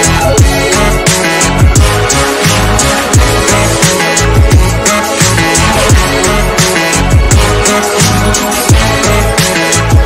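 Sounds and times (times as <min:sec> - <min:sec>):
electronic music with bass: 0:00.0 - 0:10.0.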